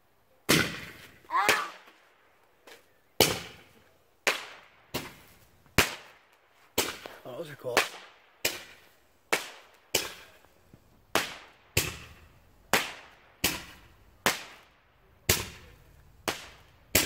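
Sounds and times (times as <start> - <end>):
roman candle firework pops: 0.5 - 2.1, 2.7 - 17.0.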